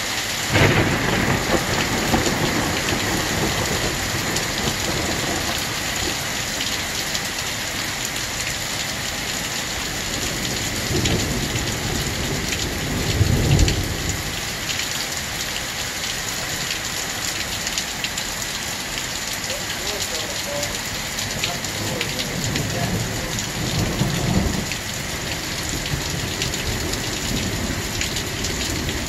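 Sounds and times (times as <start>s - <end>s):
hail falling on pavement: 0.2s - 29.0s.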